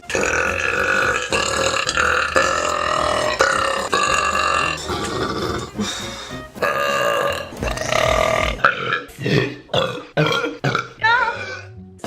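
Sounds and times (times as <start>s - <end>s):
woman burping: 0.0s - 5.8s, 6.6s - 11.7s.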